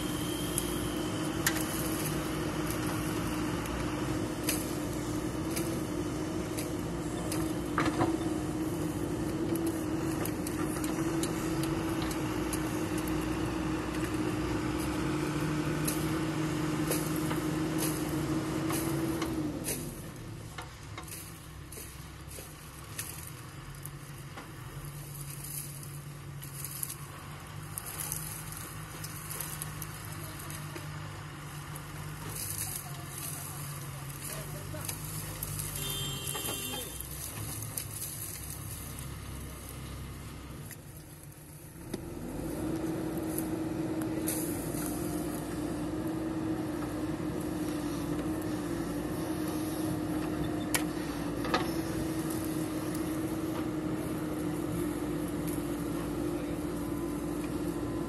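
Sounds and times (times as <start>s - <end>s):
backhoe diesel engine running: 0.0s - 58.0s
truck diesel engine running: 0.0s - 58.0s.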